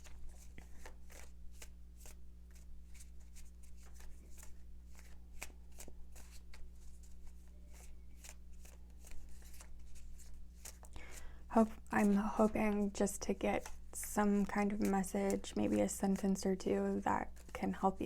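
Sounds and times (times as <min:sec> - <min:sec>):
cards being shuffled: 0:00.0 - 0:16.4, 0:17.2 - 0:17.6
low electrical hum: 0:00.0 - 0:18.0.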